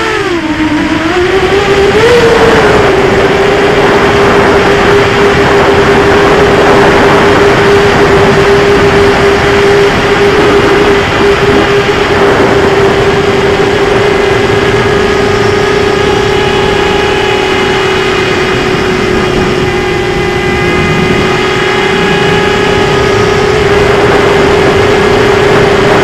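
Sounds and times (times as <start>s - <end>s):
drone motors humming and whining: 0.0s - 26.0s
rushing air: 0.0s - 26.0s.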